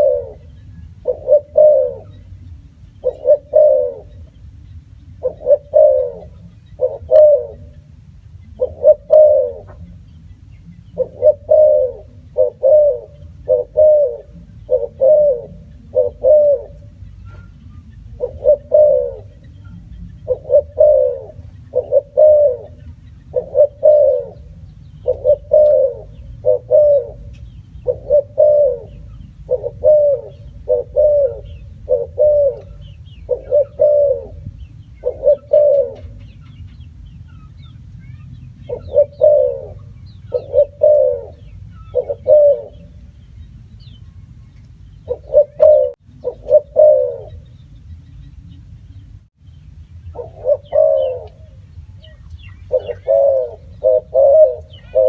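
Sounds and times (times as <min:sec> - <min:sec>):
dove cooing: 0:00.0 - 0:04.4, 0:05.1 - 0:10.0, 0:10.8 - 0:43.1, 0:44.9 - 0:47.6, 0:50.1 - 0:55.0.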